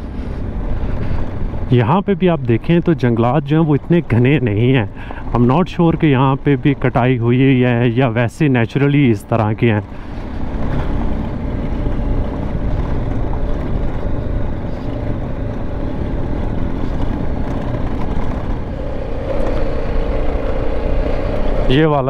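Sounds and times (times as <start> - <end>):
tyres rumbling on gravel: 0.0 - 22.0
motorcycle engine running: 2.6 - 22.0.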